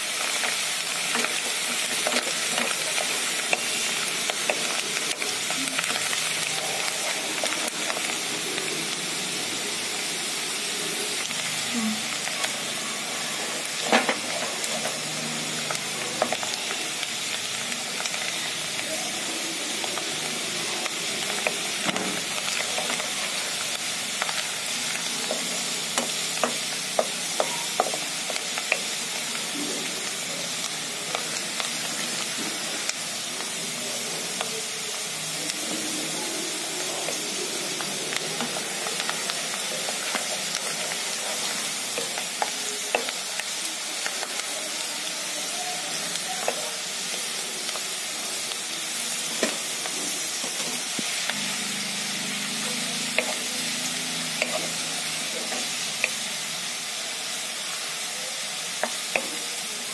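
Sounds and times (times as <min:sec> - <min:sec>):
onions sizzling in hot oil: 0:00.0 - 0:59.9.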